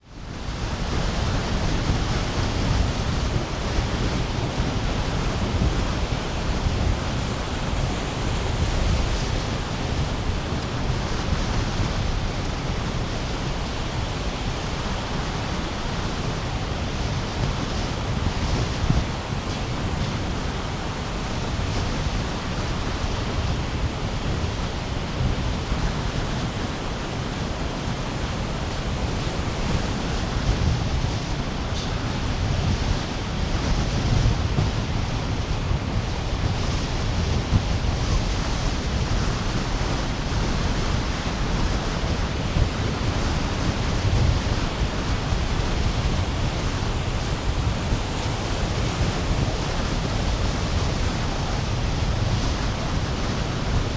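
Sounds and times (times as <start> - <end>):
sea waves breaking on beach: 0.3 - 53.9.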